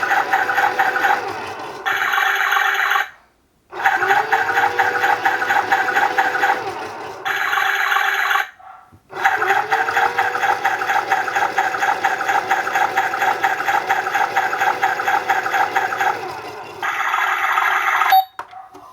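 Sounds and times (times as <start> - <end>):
toy washing machine whirring: 0.0 - 18.9.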